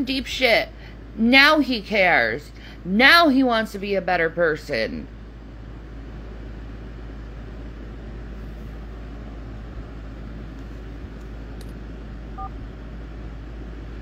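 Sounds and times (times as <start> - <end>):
steady low hum with hiss: 0.0 - 14.0.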